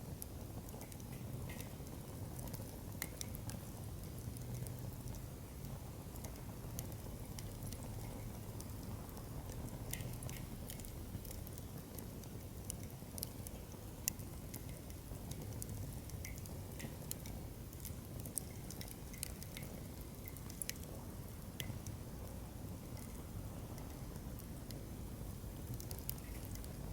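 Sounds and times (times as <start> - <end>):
campfire crackling and popping: 0.0 - 26.9.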